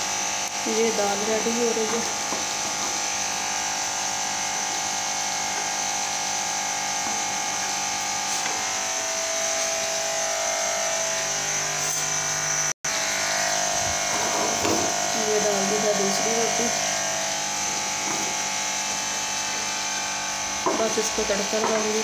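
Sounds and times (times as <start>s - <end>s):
electric motor buzzing hum: 0.0s - 22.0s.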